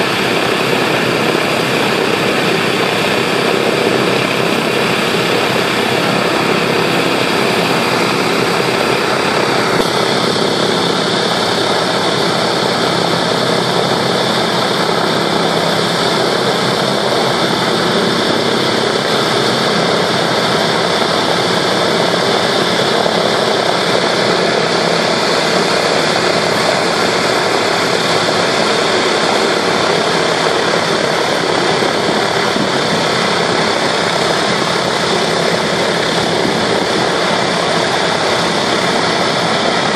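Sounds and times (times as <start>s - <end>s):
radial aircraft engines idling: 0.0s - 39.9s.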